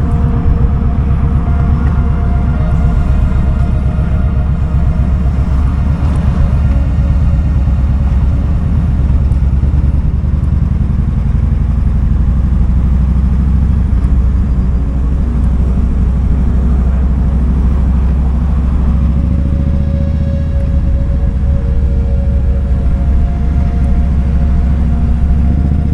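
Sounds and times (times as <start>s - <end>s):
faint steady whine: 0.0s - 25.9s
motorcycle engine running: 0.0s - 25.9s.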